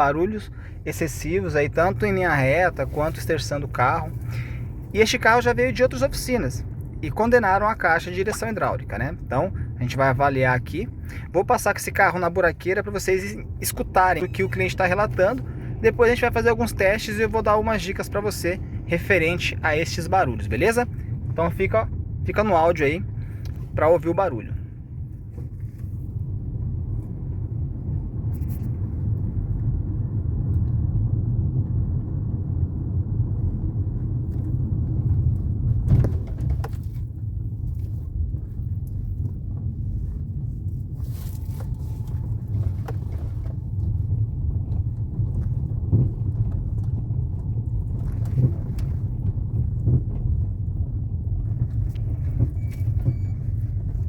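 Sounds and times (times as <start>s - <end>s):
road rumble: 0.0s - 54.0s.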